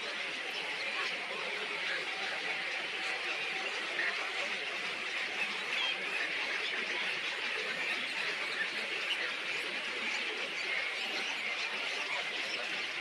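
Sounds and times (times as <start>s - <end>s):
many small birds chattering: 0.0s - 13.0s.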